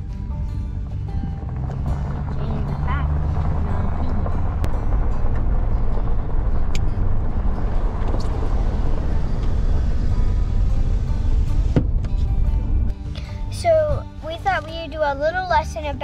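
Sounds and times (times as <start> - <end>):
truck engine and tyre rumble: 0.0 - 16.0.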